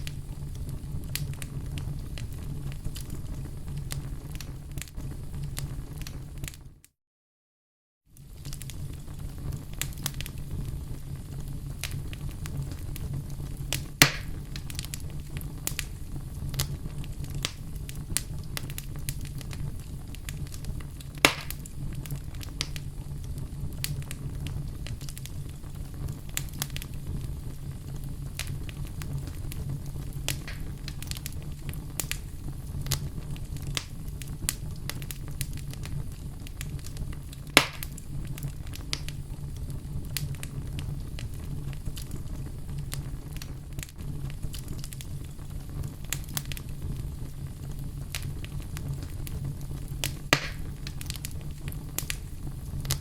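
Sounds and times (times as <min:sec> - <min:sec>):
loud fire pops: 0:00.0 - 0:06.7, 0:08.2 - 0:53.0
wood fire crackling: 0:00.0 - 0:06.8, 0:08.1 - 0:53.0
low rumble of flames: 0:00.0 - 0:06.9, 0:08.1 - 0:53.0.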